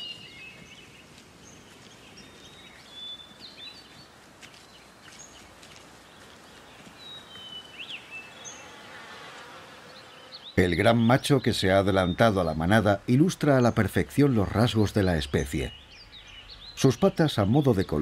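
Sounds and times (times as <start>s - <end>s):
birds whistling and chirping: 0.0s - 4.1s, 6.2s - 8.8s, 9.9s - 18.0s.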